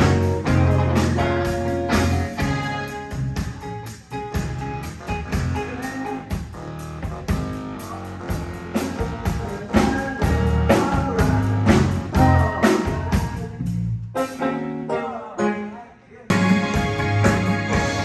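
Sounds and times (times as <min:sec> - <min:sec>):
blues-rock band playing: 0:00.0 - 0:15.1, 0:16.3 - 0:18.0.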